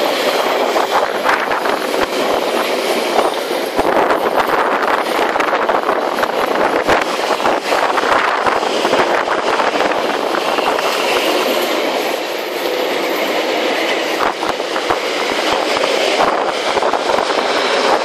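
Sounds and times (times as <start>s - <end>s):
train wheels clattering on rails: 0.0s - 18.0s.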